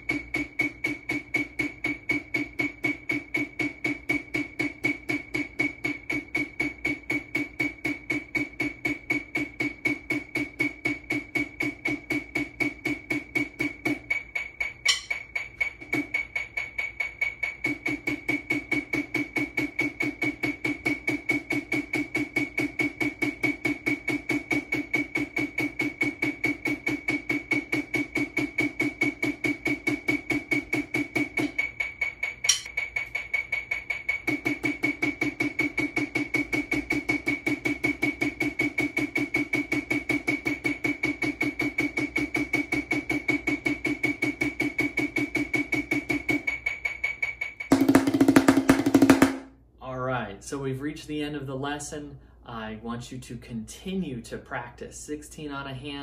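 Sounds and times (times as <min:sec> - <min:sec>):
metronome ticking: 0:00.0 - 0:47.8.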